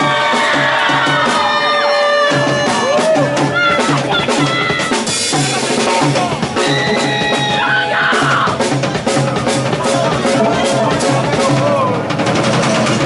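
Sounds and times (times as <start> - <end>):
drum kit beat: 0.0 - 13.0
rock band playing live: 0.0 - 13.0.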